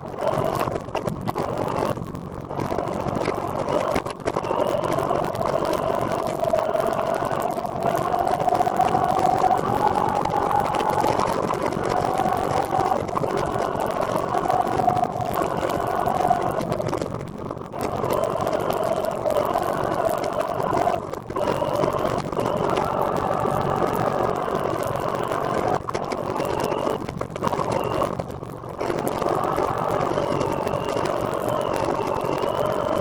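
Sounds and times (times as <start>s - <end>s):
wavering mid-pitched hum: 0.0s - 33.0s.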